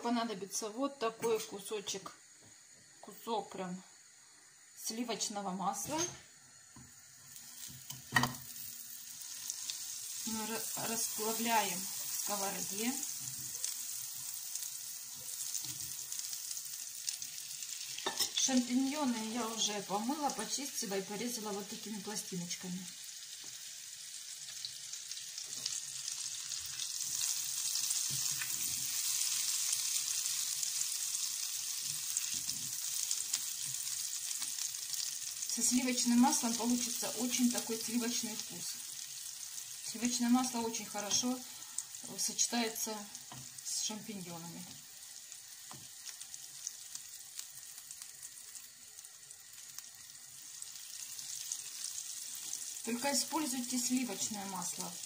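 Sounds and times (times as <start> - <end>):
butter sizzling in frying pan: 4.0 - 55.0.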